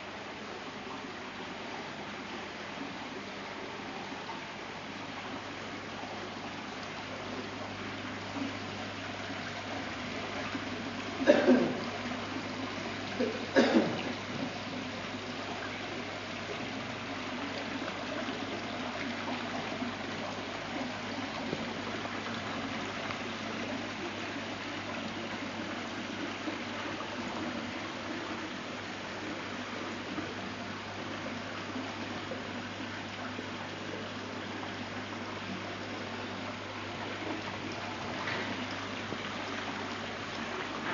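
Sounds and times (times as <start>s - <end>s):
fountain water trickling and splashing: 0.0s - 40.9s.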